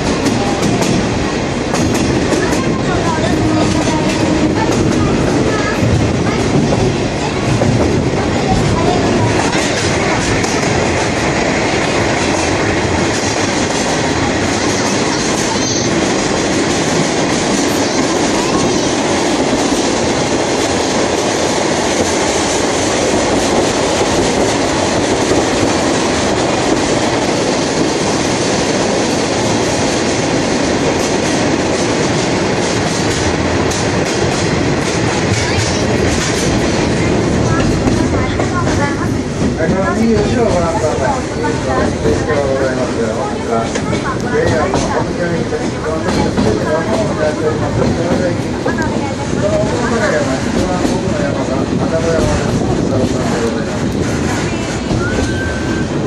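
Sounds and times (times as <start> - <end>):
train cars rattling: 0.0 - 56.0
train wheels on rails: 0.0 - 56.0.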